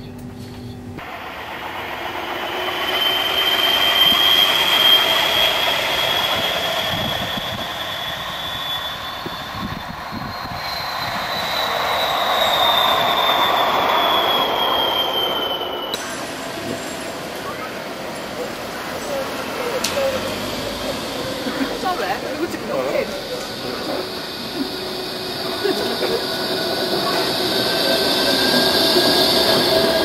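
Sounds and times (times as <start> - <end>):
high steady whine: 0.0 - 30.0
tram wheels rumbling on track: 0.0 - 30.0.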